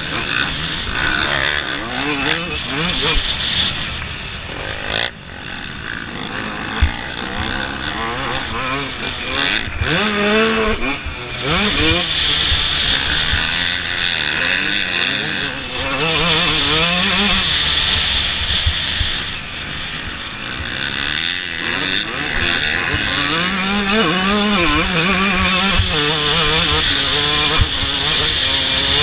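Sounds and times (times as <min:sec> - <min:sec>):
motocross engine revving: 0:00.0 - 0:29.0.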